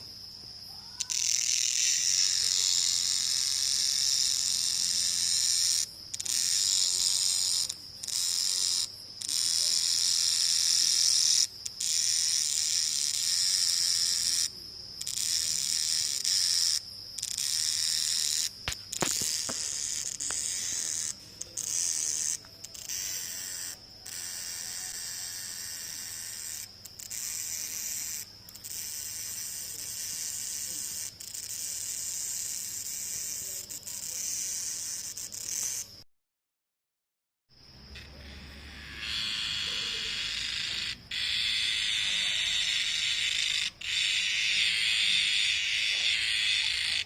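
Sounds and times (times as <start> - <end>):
cicadas buzzing: 0.0 - 36.0, 37.6 - 47.0.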